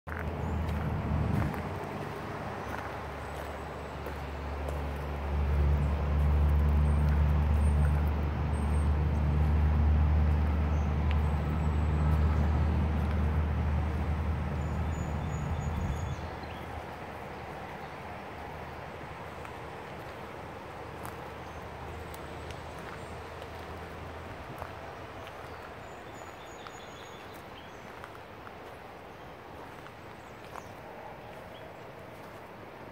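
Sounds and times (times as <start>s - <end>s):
vehicle engine drone: 0.1s - 32.9s.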